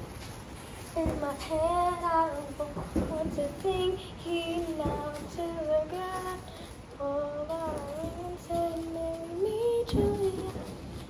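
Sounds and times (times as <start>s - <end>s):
child singing: 0.9s - 10.8s.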